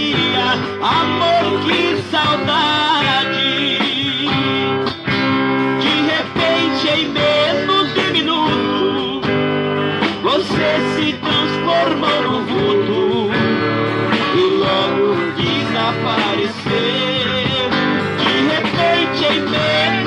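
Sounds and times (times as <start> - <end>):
guitar: 0.0 - 20.0.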